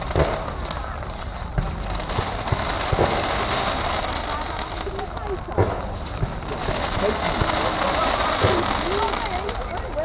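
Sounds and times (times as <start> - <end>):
background noise: 0.0 - 10.0
fireworks bangs and pops: 0.0 - 10.0.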